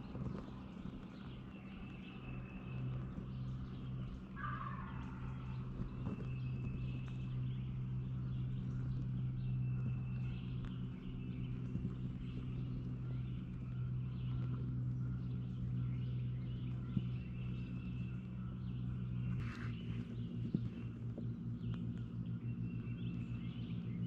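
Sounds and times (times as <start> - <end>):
songbirds calling: 0.0 - 24.0
steady low hum: 0.0 - 24.0.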